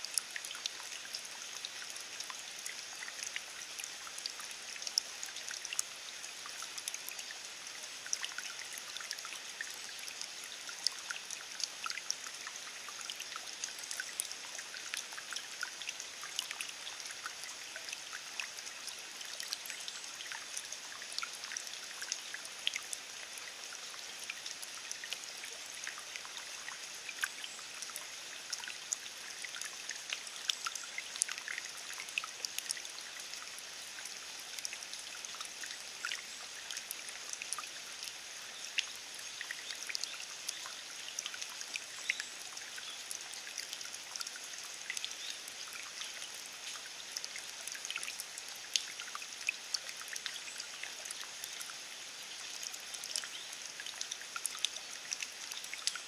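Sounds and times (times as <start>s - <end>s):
rain falling on wet ground: 0.0s - 56.0s
raindrops splashing in puddle: 0.0s - 56.0s.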